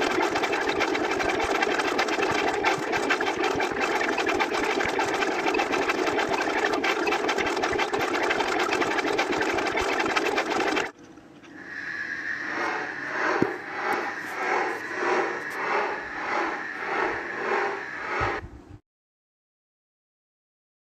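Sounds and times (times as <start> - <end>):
pulsing machine sound: 0.0 - 18.6
engine-like mechanical roar: 0.0 - 18.7.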